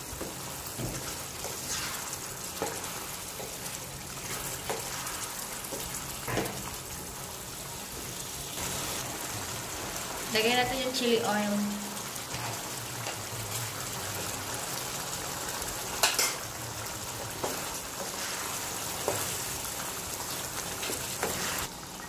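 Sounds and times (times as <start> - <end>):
stew bubbling and sizzling: 0.0 - 22.0.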